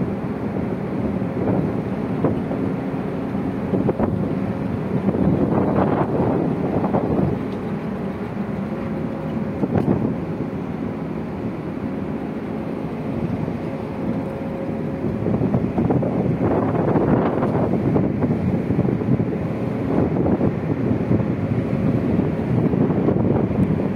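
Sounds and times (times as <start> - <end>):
wind blowing across microphone: 0.0 - 2.8, 3.6 - 8.2, 9.5 - 10.5, 13.1 - 23.9
low hum of ship: 0.0 - 23.9.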